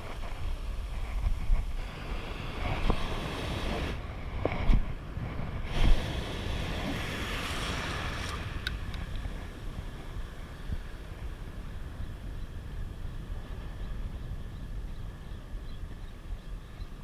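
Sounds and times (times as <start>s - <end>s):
surf washing over beach: 0.0s - 15.6s
wind buffeting microphone: 0.0s - 17.0s.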